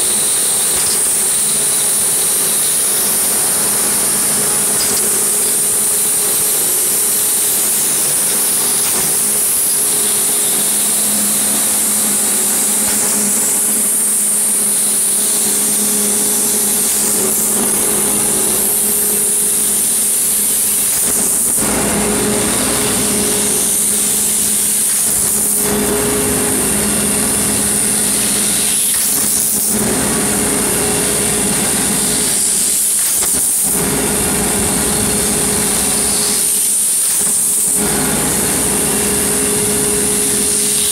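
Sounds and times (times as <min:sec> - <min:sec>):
wire cutting machine whirring: 0:00.0 - 0:40.9.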